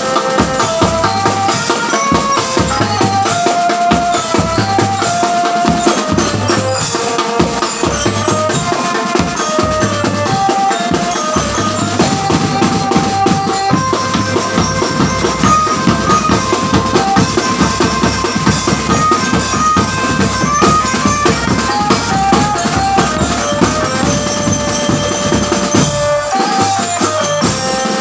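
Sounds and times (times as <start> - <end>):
drums beating: 0.0 - 28.0
marching band melody: 0.0 - 28.0.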